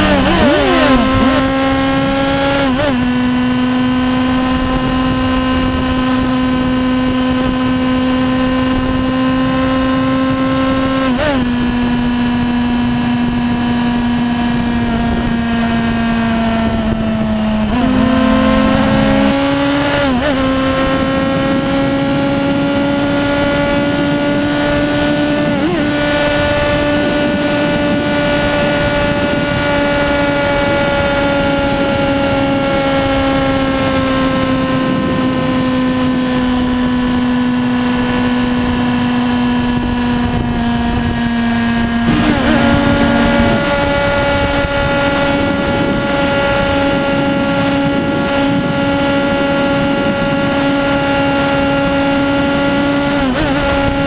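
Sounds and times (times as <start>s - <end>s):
motorcycle engine running hard: 0.0s - 54.0s
wind rush on microphone: 0.0s - 54.0s.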